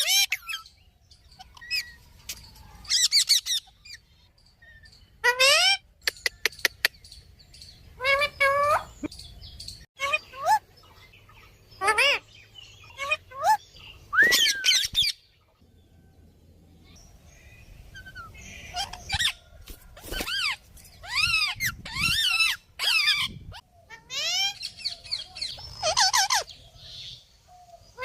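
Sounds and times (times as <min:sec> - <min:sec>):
parrots chirping: 0:00.0 - 0:15.4, 0:16.8 - 0:27.2.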